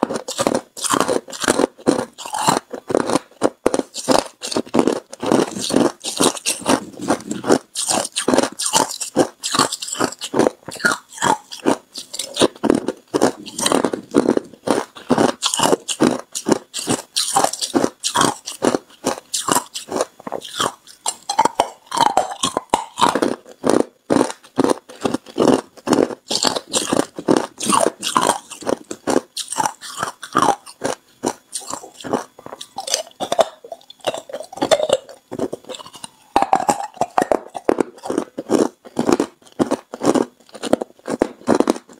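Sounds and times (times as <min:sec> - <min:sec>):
ice cubes being chewed: 0:00.0 - 0:41.9.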